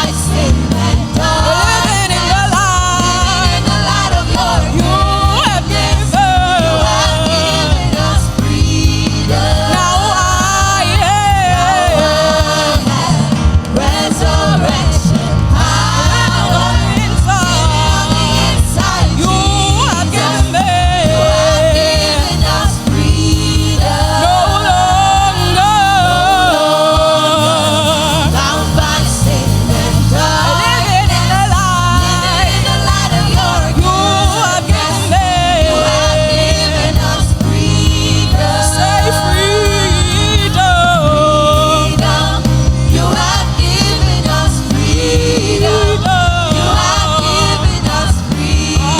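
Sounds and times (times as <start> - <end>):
gospel band playing: 0.0 - 48.9.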